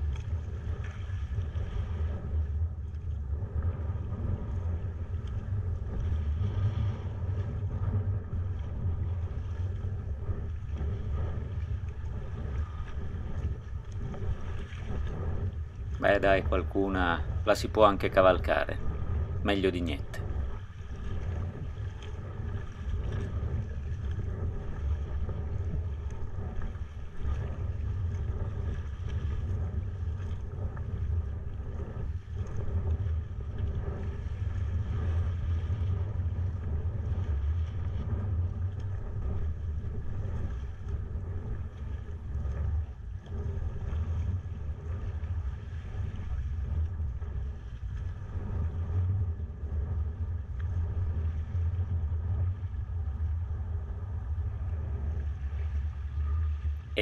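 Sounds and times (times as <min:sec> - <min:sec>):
sea water washing around kayak: 0:00.0 - 0:57.0
wind buffeting microphone: 0:00.0 - 0:57.0.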